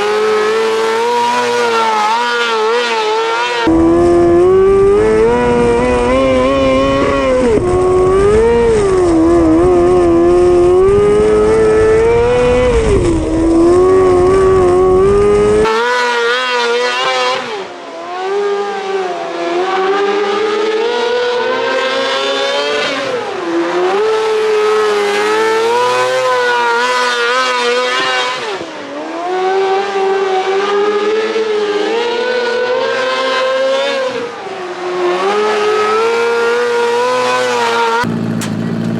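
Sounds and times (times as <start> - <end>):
race car engines: 0.0 - 38.9.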